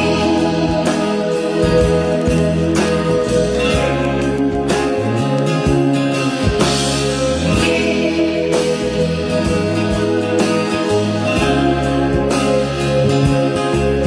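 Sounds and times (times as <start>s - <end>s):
guitar music through speakers: 0.0s - 14.0s.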